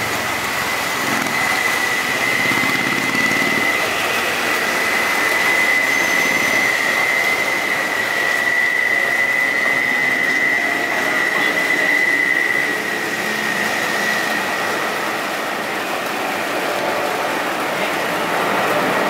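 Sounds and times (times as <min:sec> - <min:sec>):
jet engine roar with fan whine: 0:00.0 - 0:19.0.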